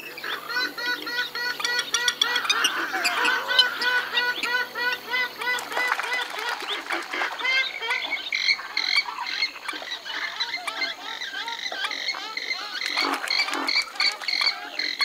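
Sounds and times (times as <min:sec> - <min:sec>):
swamphens calling: 0:00.0 - 0:15.0.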